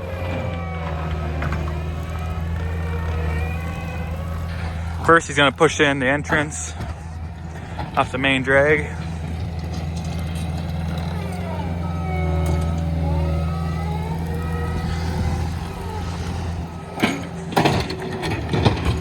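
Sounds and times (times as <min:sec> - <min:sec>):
diesel engine working: 0:00.0 - 0:19.0.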